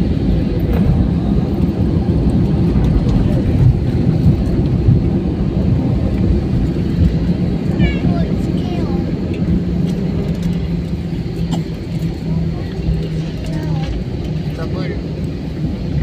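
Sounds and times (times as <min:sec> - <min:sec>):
airliner landing rumble: 0:00.0 - 0:16.0.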